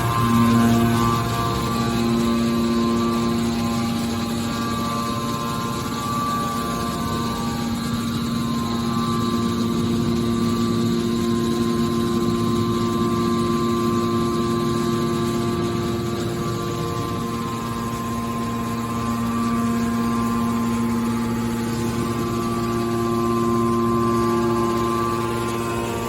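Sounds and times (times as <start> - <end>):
hydraulic baler humming with whine: 0.0 - 26.0.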